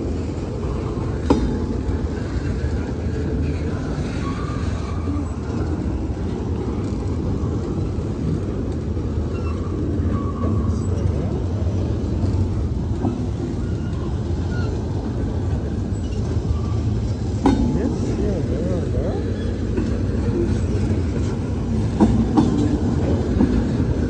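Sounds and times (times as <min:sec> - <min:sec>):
freight train wheels rumbling on rails: 0:00.0 - 0:24.0.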